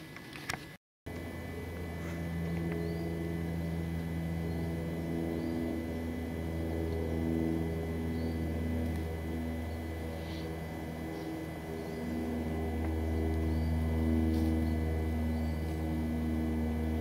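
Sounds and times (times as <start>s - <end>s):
bagpipes playing a slow tune: 1.1s - 17.0s.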